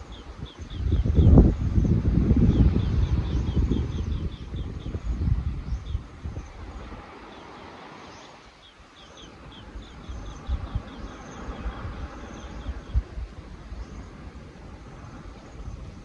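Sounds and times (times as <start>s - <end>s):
wind gusting with low rumble: 0.0s - 16.0s.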